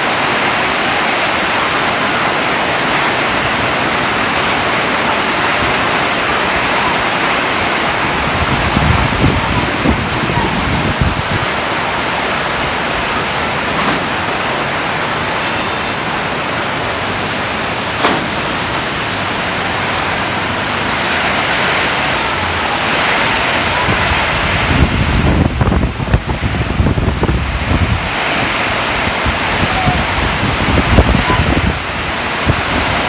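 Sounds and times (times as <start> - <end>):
wind buffeting microphone: 0.0 - 14.4, 16.7 - 33.0
heavy rain pouring: 0.0 - 33.0.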